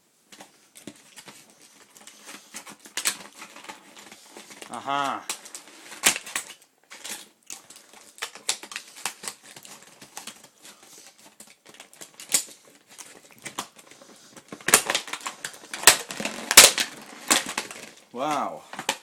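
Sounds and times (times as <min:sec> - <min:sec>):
plastic packaging crinkling: 0:00.3 - 0:19.0
scissors cutting plastic packaging: 0:02.0 - 0:18.0.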